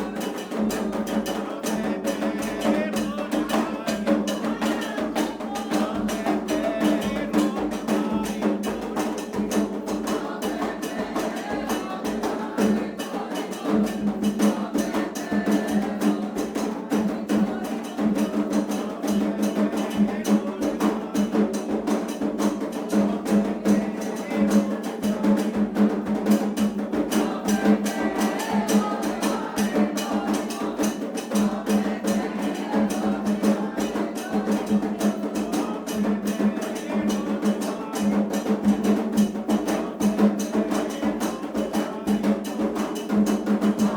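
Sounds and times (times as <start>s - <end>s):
hand drums in fast rhythm: 0.0s - 43.9s
voices singing: 0.0s - 43.9s.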